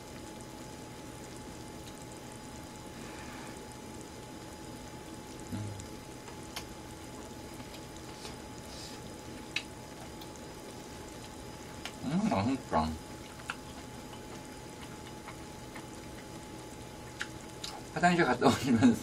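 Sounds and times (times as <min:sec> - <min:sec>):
food simmering with bubbling hiss: 0:00.0 - 0:19.0.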